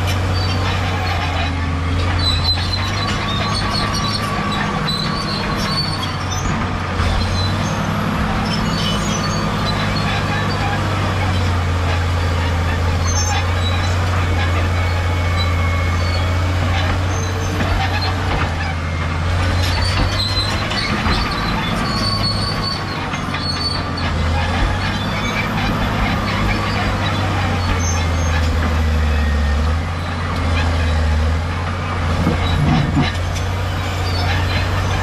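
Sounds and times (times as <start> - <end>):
bulldozer diesel engine running: 0.0 - 35.0
steel tracks clanking and squealing: 0.0 - 35.0.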